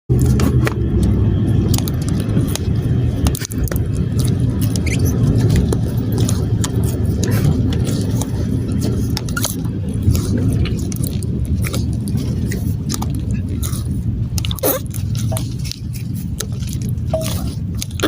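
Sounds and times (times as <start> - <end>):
low rumble: 0.1 - 18.0.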